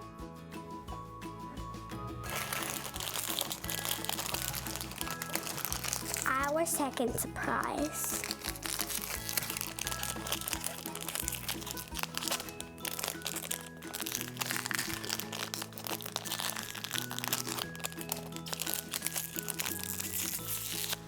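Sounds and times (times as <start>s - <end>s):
background music: 0.0s - 21.0s
plastic wrapper crinkling: 2.3s - 21.0s.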